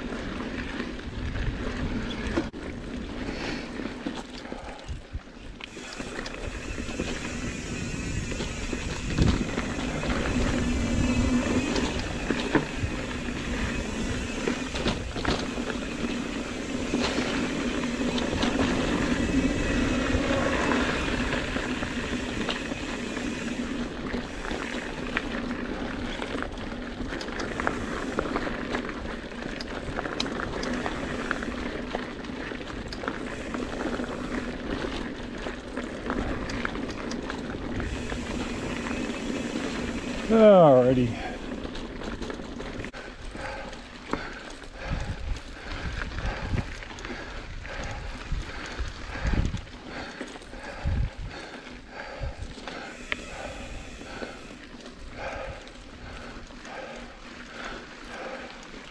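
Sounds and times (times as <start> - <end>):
bike clicks and rattles: 0.0 - 58.9
bike tyres humming on dirt: 0.0 - 58.9.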